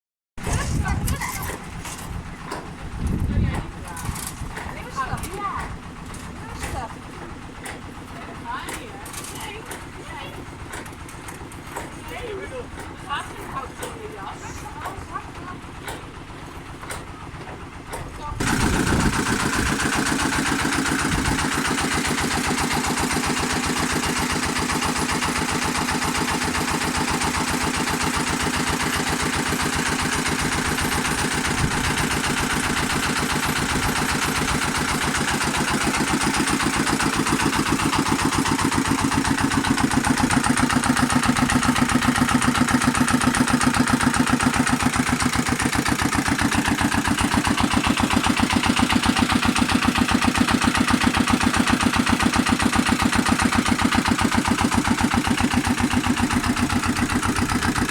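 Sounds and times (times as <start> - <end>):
stationary engine running: 0.4 - 57.9.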